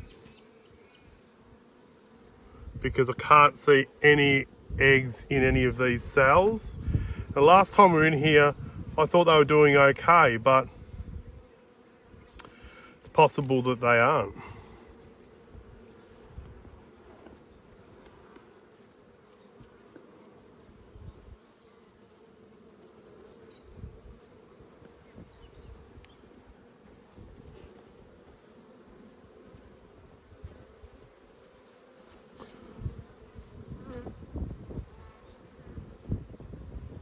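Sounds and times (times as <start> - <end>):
honeybees buzzing: 0.0 - 37.0.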